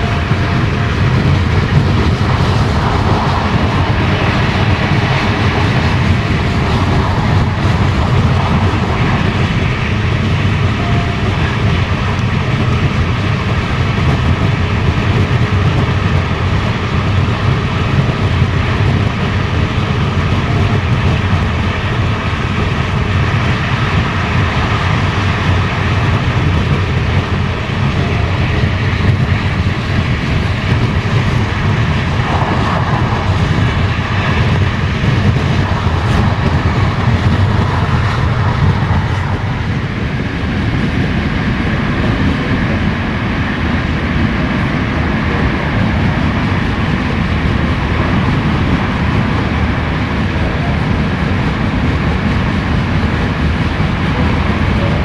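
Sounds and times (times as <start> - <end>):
rumble of train wheels on rails: 0.0 - 55.0.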